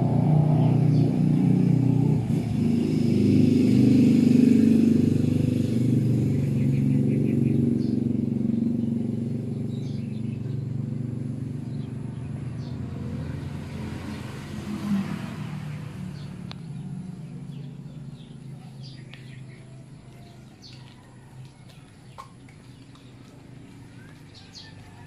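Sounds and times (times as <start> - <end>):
birds chirping: 0.0 - 25.0
vehicle engine humming: 0.0 - 25.0.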